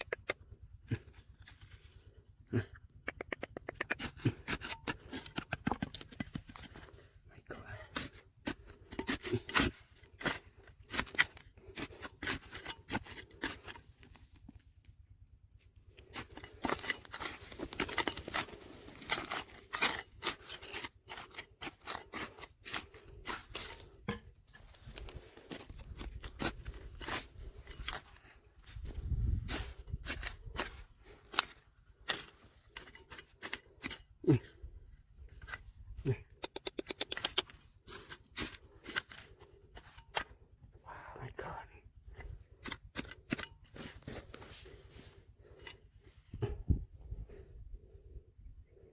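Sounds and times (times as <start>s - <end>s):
gravel scraping and clicking: 0.0s - 40.6s.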